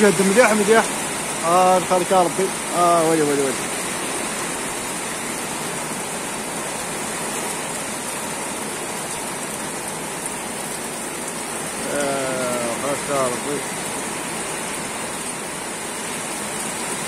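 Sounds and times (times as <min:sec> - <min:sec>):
heavy rain on foliage: 0:00.0 - 0:17.0.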